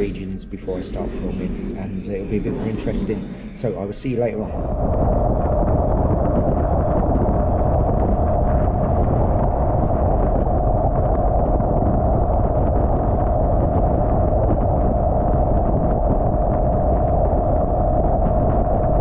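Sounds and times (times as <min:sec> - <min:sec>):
wind roaring on microphone: 0:00.0 - 0:19.0.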